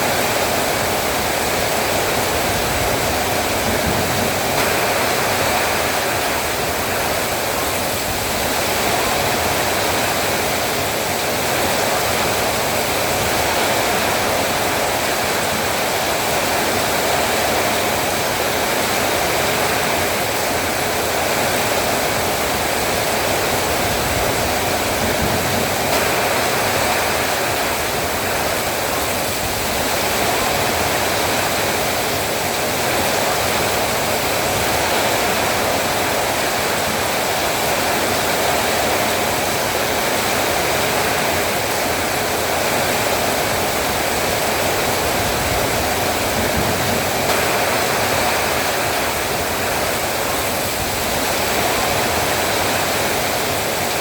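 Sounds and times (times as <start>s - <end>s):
heavy rain falling: 0.0s - 54.0s
wind: 0.0s - 54.0s.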